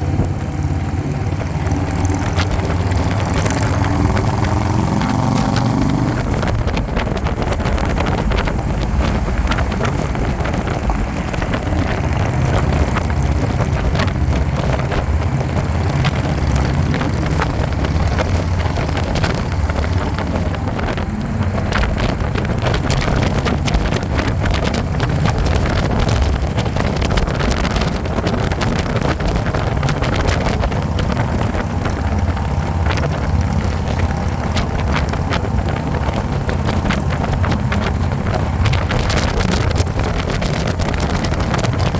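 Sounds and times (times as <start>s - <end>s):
motorcycle engine drone: 0.0s - 41.9s
wind rushing on microphone: 0.0s - 41.9s.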